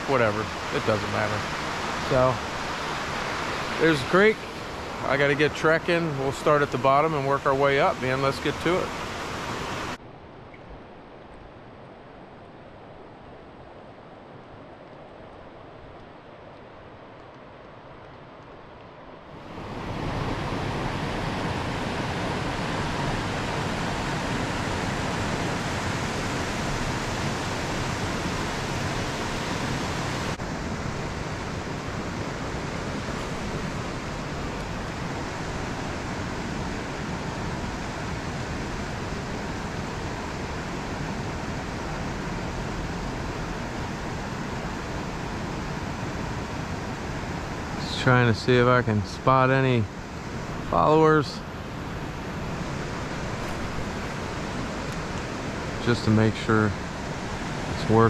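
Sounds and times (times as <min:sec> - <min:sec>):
creek water rushing: 0:00.0 - 0:10.0, 0:11.1 - 0:58.0.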